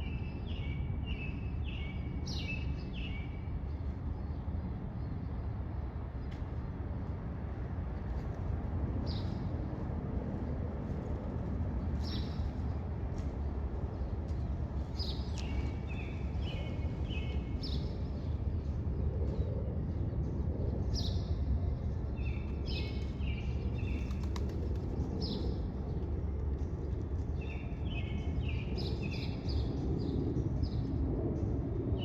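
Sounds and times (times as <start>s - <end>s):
low rumble of outdoor noise: 0.0s - 32.0s.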